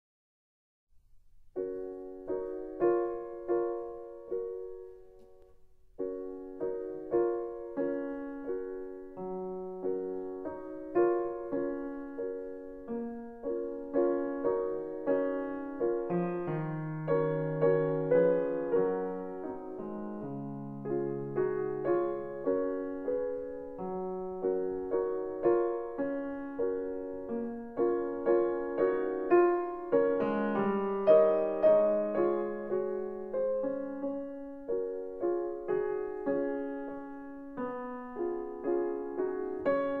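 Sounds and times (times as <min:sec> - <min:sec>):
slow gentle piano piece: 0:01.0 - 0:40.0.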